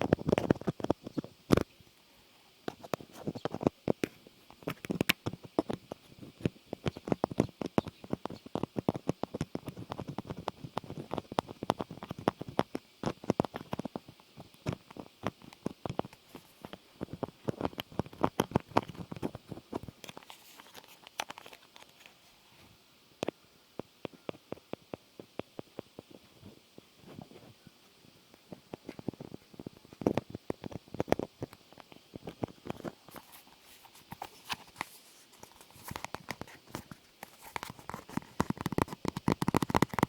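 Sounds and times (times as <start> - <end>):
small clicks and taps: 0.0 - 1.7, 2.7 - 22.2, 23.2 - 27.5, 28.3 - 40.0.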